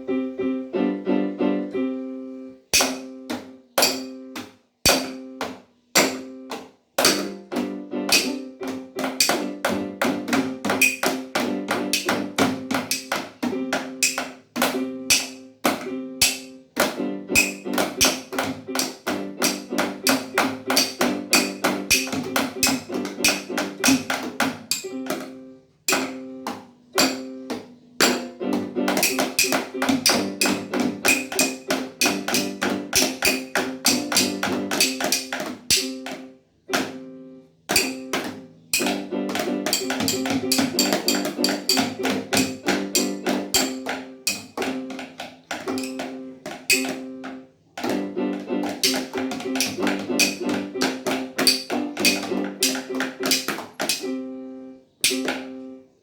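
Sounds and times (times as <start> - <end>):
ringing percussion taps: 2.7 - 37.0, 37.7 - 54.2, 55.0 - 55.8.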